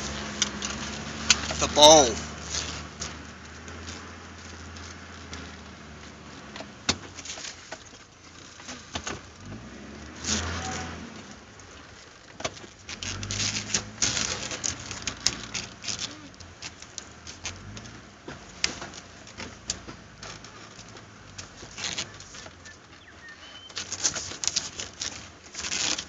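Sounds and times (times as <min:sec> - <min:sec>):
vehicle engine running low: 0:00.0 - 0:26.0.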